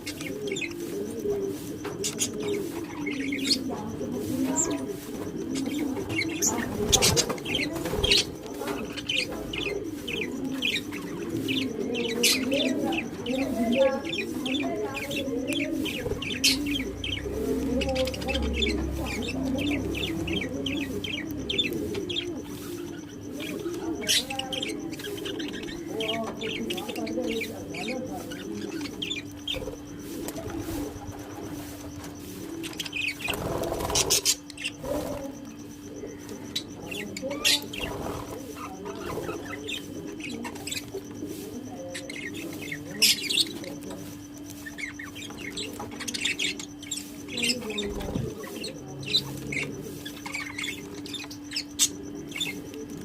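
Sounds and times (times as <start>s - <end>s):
parrots chirping and calling: 0.0s - 53.0s.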